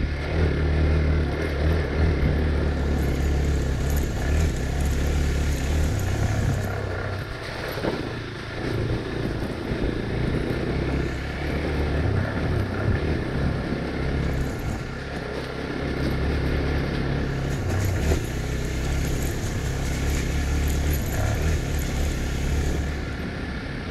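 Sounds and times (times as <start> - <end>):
motorcycle engine running: 0.0 - 23.9.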